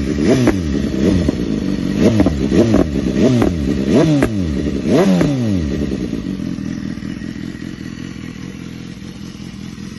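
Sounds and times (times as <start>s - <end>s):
motorcycle engine revving and idling: 0.0s - 9.9s.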